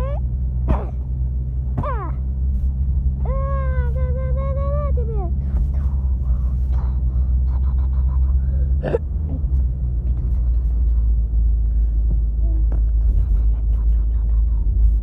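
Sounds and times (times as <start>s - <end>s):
car rumbling on the move: 0.0s - 15.0s.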